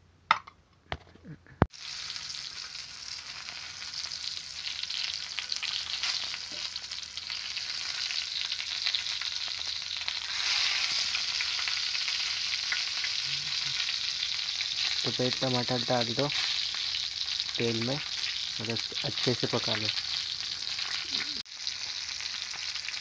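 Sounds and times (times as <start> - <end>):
tomatoes sizzling in hot oil: 1.7 - 23.0.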